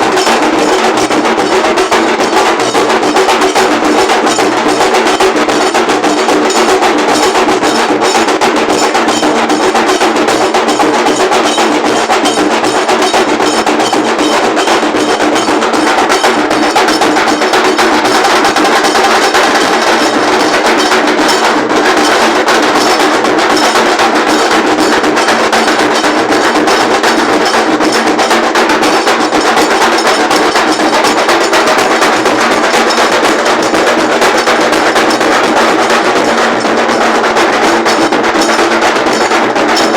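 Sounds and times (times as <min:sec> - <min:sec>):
large drums beating fast rhythm: 0:00.0 - 0:39.9.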